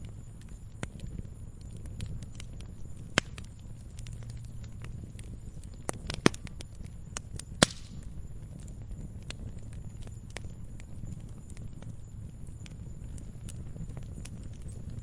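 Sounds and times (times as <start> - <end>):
burning wood crackling: 0.0 - 15.0
low rumble of flames: 0.0 - 15.0.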